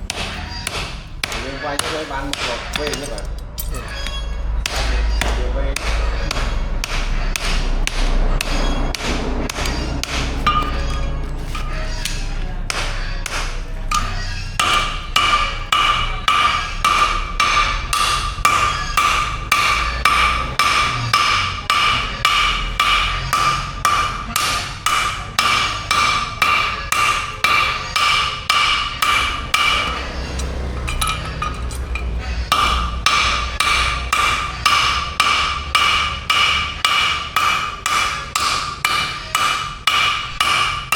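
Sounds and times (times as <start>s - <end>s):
hammer striking steel on anvil: 0.0s - 40.9s.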